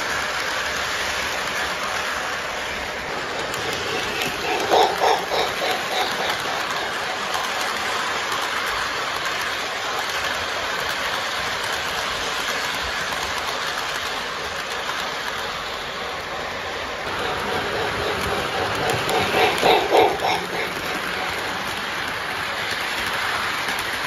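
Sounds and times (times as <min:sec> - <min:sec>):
model train rolling on track: 0:00.0 - 0:24.0.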